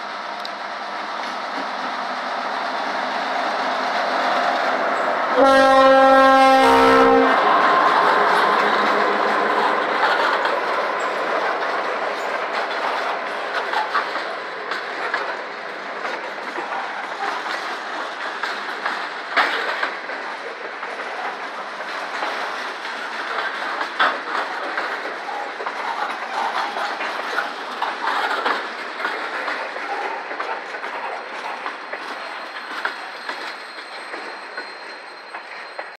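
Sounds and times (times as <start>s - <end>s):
freight train wheels clacking: 0.0s - 36.0s.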